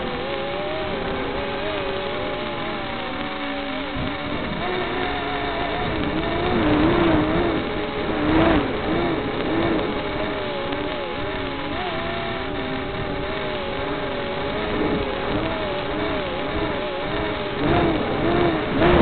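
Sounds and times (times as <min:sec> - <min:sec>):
small drone motors whining: 0:00.0 - 0:19.0.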